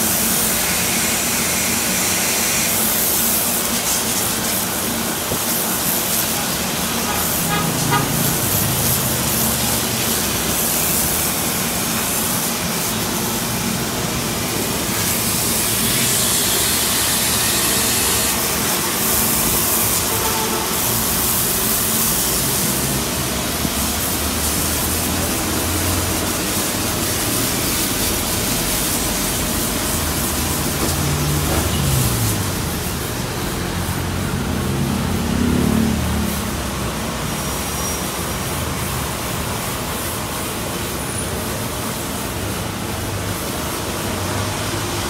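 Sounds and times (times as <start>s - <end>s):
water spraying from hose: 0.0s - 45.0s.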